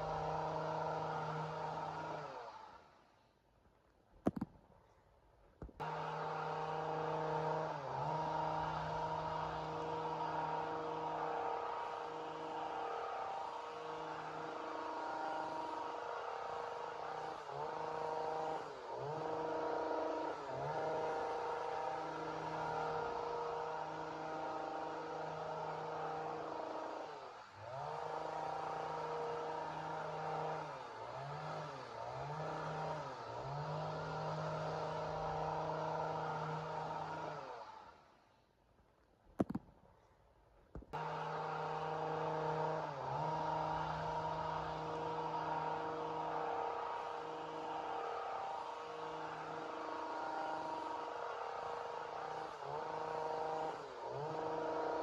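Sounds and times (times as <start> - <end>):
chainsaw running at high revs: 0.0 - 3.1, 5.8 - 38.2, 40.9 - 55.0.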